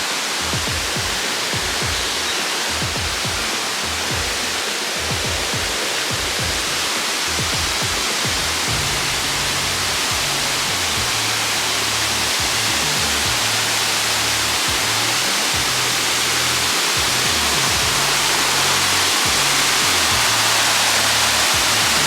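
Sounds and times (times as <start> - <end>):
background music with bass: 0.0 - 22.0
waterfall rushing: 0.0 - 22.0.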